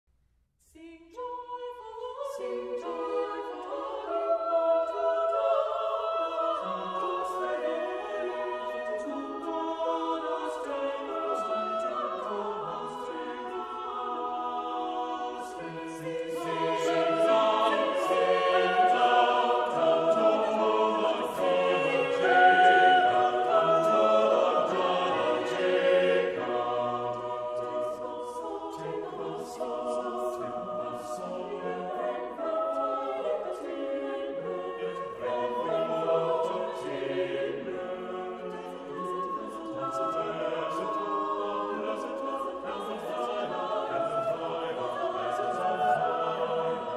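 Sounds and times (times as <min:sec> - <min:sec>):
choir singing sustained chords: 0:00.7 - 0:46.9.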